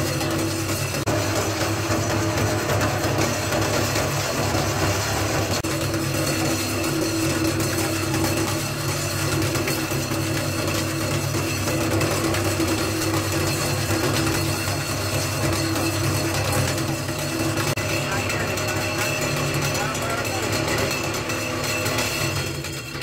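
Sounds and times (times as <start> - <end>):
meat chopping machine humming: 0.0 - 23.0.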